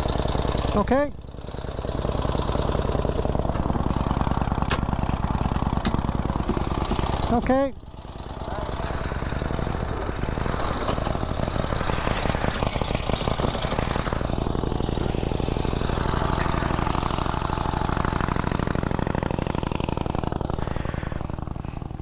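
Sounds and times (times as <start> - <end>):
motorcycle engine chugging: 0.0 - 22.0.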